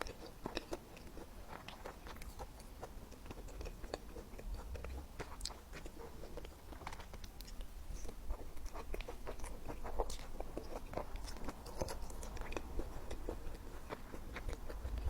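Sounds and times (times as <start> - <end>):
chewing and biting food: 0.0 - 15.0.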